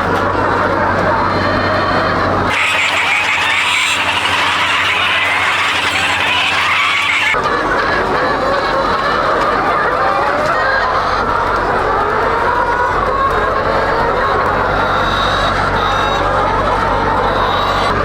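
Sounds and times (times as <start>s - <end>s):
chickens clucking and squawking: 0.0s - 18.0s.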